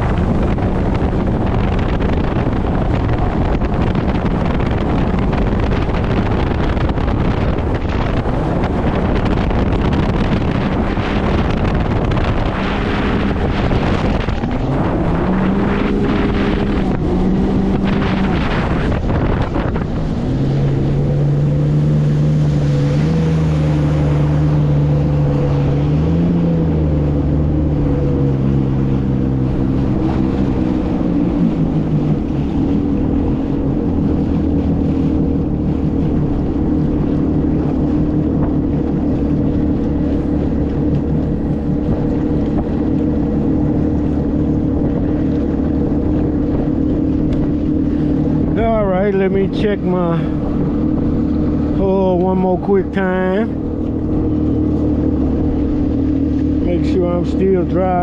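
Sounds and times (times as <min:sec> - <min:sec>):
boat outboard engine running: 0:00.0 - 0:58.0
wind and water rush: 0:00.0 - 0:58.0.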